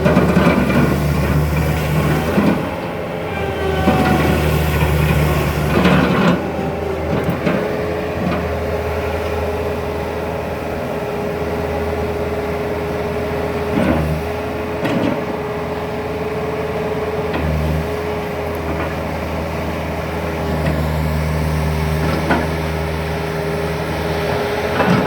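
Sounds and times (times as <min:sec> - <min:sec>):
diesel engine running with whine: 0:00.0 - 0:25.0.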